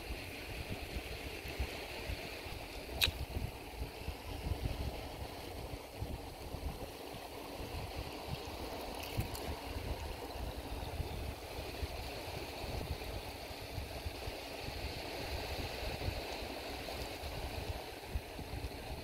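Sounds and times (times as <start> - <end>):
water rushing along rocks: 0.0 - 19.0
wind rumble on microphone: 0.0 - 19.0.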